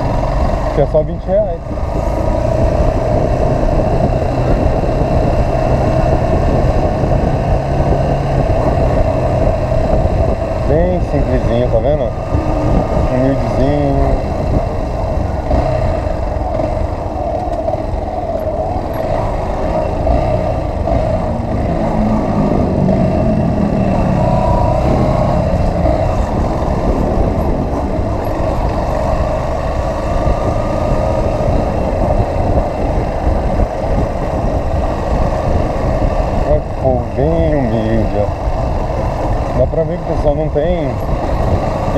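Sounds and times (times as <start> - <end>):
motorcycle engine running: 0.0 - 41.9
wind rumble on microphone: 0.0 - 41.9.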